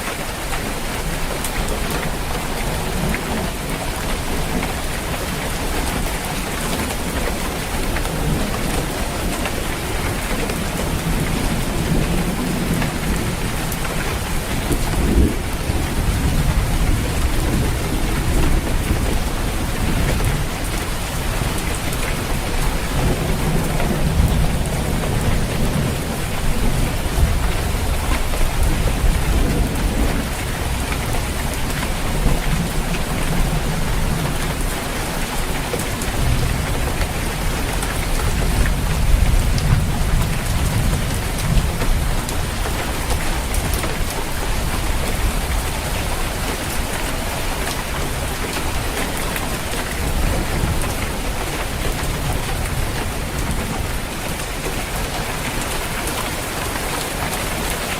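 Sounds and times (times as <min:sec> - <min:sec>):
heavy rain on a roof: 0:00.0 - 0:57.9
thunder rumbling: 0:08.0 - 0:56.6.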